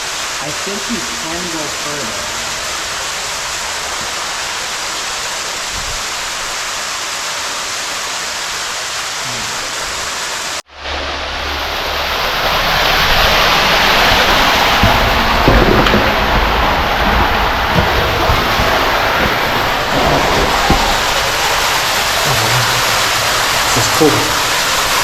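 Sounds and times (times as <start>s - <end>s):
water rushing through a tunnel: 0.0s - 25.0s.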